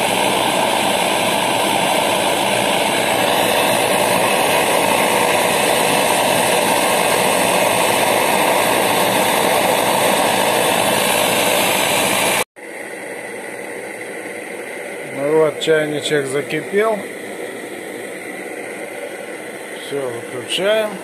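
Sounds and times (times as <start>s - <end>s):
burner rushing under kettle: 0.0s - 21.0s
pressure stove burner roaring: 0.0s - 21.0s.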